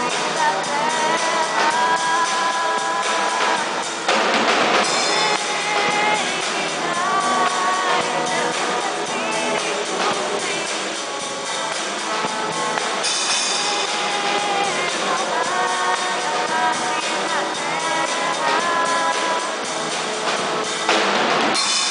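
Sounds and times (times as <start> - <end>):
man singing into a microphone: 0.0 - 4.1, 4.8 - 19.9
drum kit: 0.0 - 21.9
guitar: 0.0 - 21.9.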